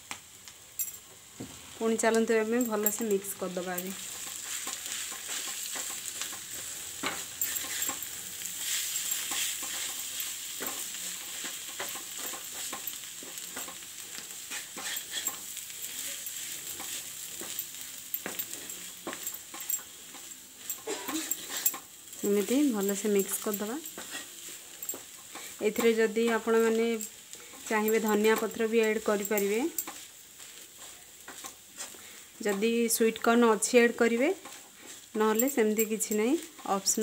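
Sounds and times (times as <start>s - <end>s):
light frying sizzle: 0.0s - 37.0s
spatula scraping and tapping a pan: 2.6s - 33.3s, 34.1s - 37.0s.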